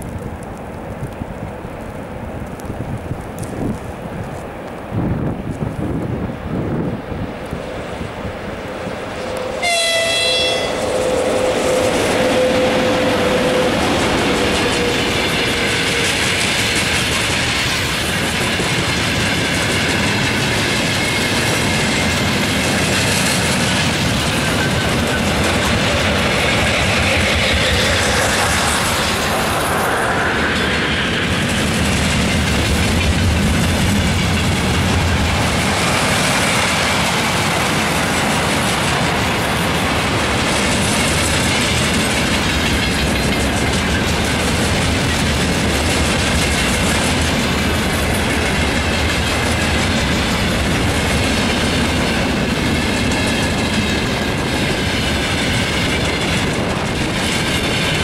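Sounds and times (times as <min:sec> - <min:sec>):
freight train wheels rumbling: 0:00.0 - 0:58.0
wheels clickety-clack on rail joints: 0:00.0 - 0:58.0.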